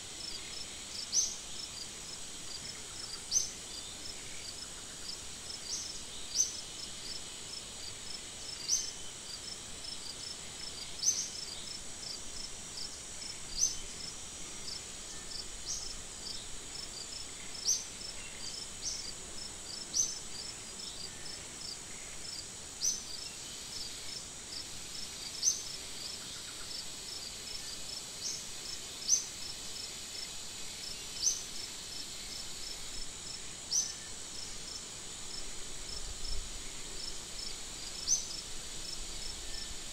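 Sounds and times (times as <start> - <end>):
high-pitched insect chorus: 0.0 - 39.9
sharp loud insect chirp: 0.2 - 39.9.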